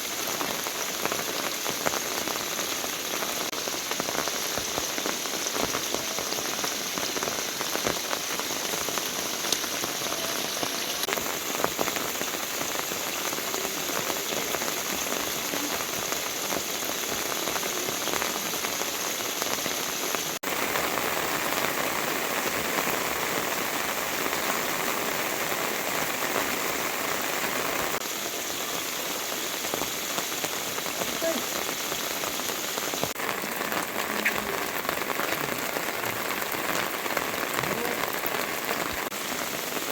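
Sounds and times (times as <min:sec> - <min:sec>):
raindrops ticking on surfaces: 0:00.0 - 0:39.9
steady rain falling: 0:00.0 - 0:39.9.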